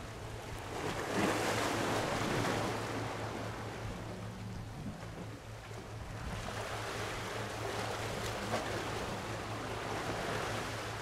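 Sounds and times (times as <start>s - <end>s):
small waves washing on shore: 0.0s - 11.0s
steady low hum: 0.0s - 11.0s.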